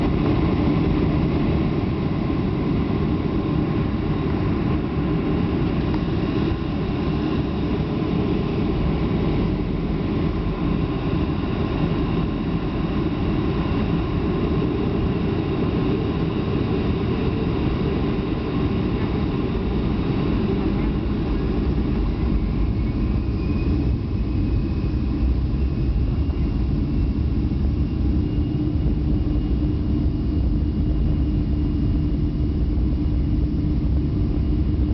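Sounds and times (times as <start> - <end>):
airliner engine rumble: 0.0 - 34.9
thin engine whine: 0.0 - 34.9.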